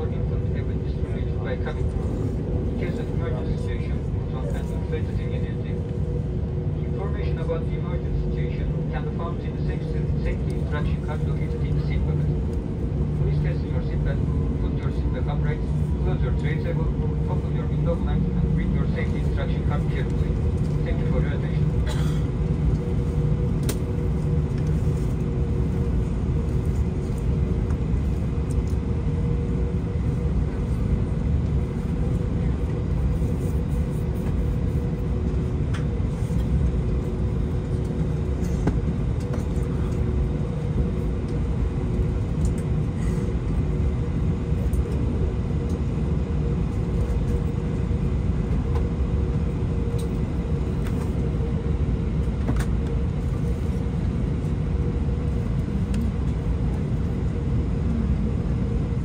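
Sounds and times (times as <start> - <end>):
aircraft cabin drone: 0.0 - 59.0.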